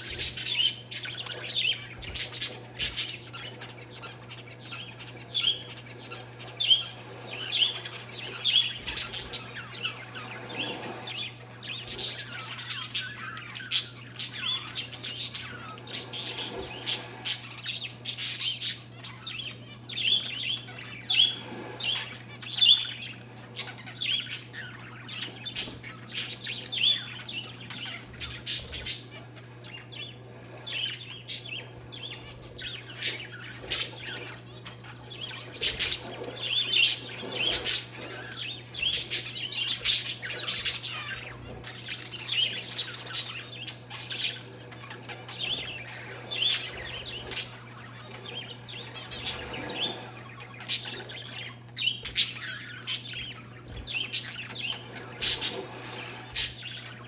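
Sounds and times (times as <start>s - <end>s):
birds chirping and squawking: 0.0s - 57.0s
steady low hum: 0.0s - 57.0s.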